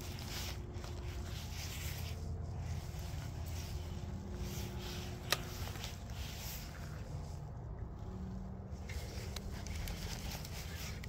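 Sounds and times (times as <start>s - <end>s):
fishing rod and line handling: 0.0s - 11.0s
steady low rumble: 0.0s - 11.0s.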